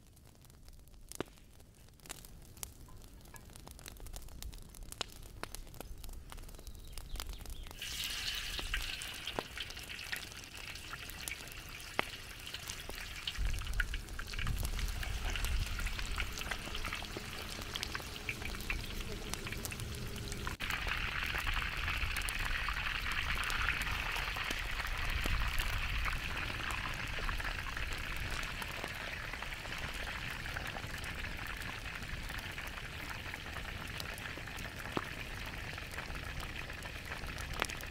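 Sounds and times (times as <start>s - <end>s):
chicken sizzling in hot oil: 6.4s - 37.9s.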